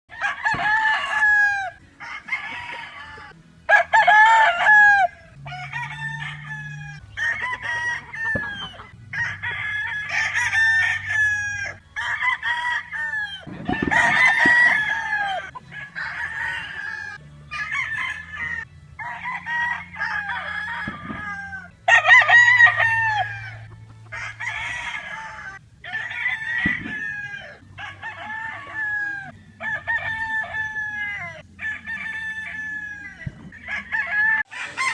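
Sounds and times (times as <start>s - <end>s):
roosters crowing: 0.1s - 34.9s.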